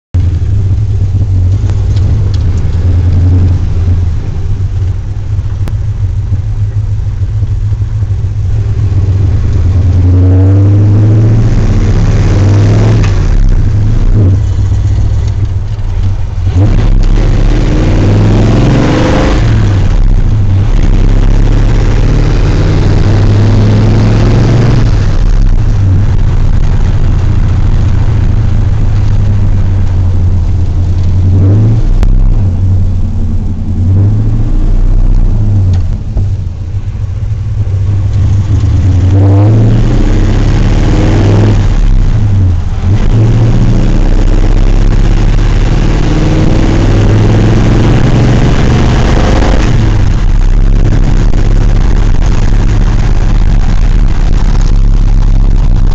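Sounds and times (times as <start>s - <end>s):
car engine accelerating: 0.1s - 55.9s.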